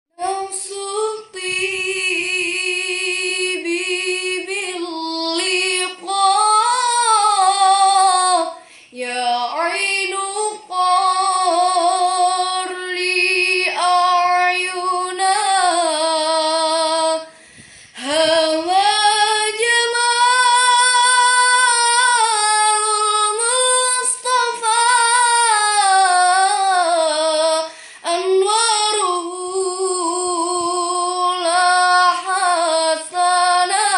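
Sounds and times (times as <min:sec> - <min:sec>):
woman singing with vibrato: 0:00.2 - 0:33.9.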